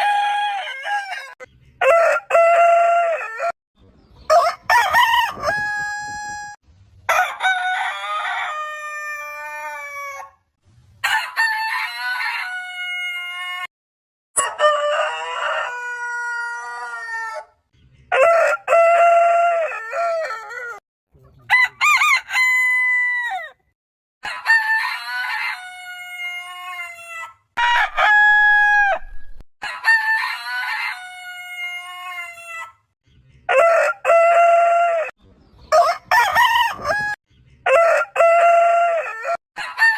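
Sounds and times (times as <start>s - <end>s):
roosters crowing: 0.0s - 3.6s, 4.3s - 13.7s, 14.4s - 20.8s, 21.5s - 32.9s, 33.5s - 35.1s, 35.7s - 39.9s.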